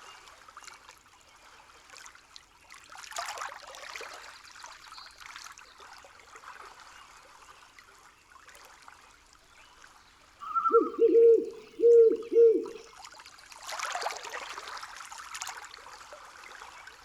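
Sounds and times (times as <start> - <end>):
small stream trickling: 0.0 - 17.0.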